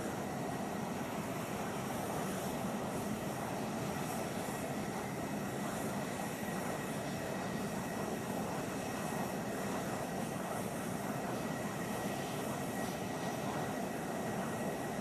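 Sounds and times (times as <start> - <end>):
jet engines rushing with high whine: 0.0 - 15.0.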